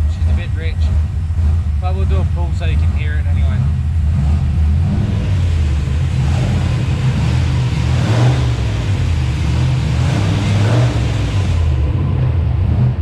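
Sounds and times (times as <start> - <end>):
turbocharged car engine revving: 0.0 - 13.0.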